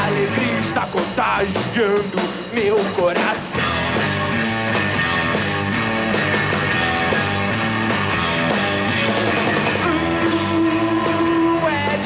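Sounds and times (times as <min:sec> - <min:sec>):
rock band playing live: 0:00.0 - 0:12.0
steady drum beat: 0:00.0 - 0:12.0.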